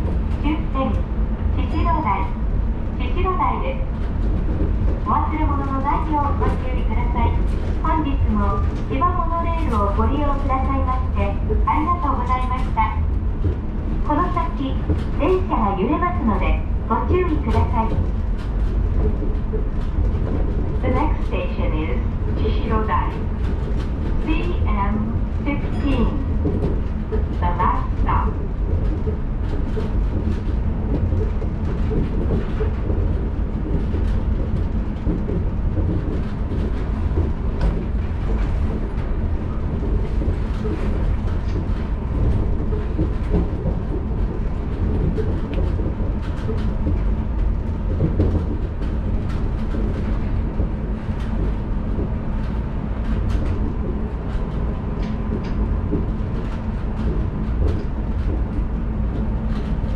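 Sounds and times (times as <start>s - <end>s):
monorail car rumbling: 0.0s - 59.9s.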